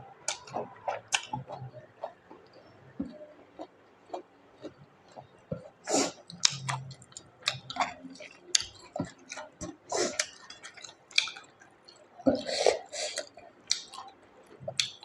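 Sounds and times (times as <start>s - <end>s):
wet chewing and smacking: 0.3s - 12.5s, 13.1s - 15.0s.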